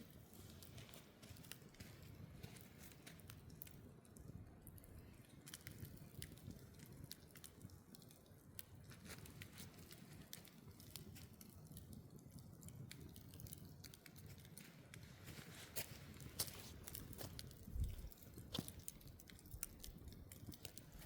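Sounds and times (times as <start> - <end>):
campfire snaps and pops: 0.0 - 21.0.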